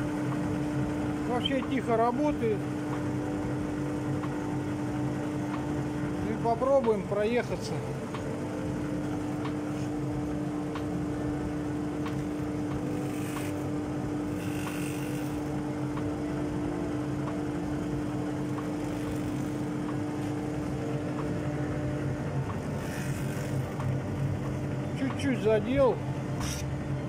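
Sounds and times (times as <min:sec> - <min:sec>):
drum sander humming: 0:00.0 - 0:27.0.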